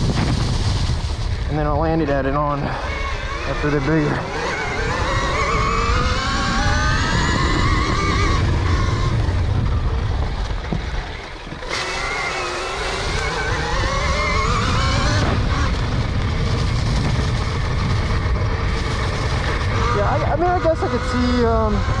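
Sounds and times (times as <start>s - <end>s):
electric motor whining: 0.0s - 22.0s
wind rumble on microphone: 0.0s - 22.0s.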